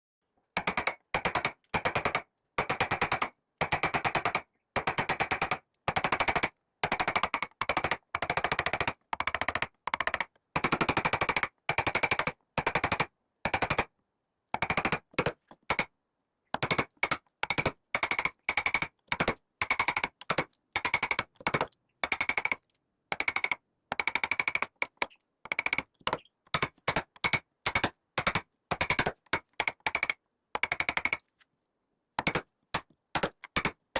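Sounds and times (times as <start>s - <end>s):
rapid drumming on wood: 0.6s - 13.9s, 14.6s - 15.9s, 16.6s - 31.2s.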